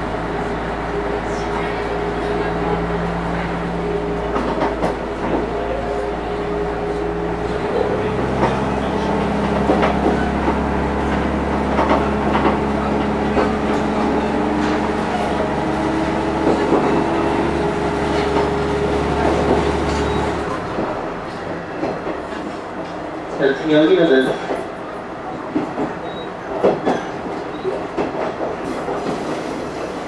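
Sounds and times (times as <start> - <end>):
railcar diesel engine running: 0.0 - 30.0.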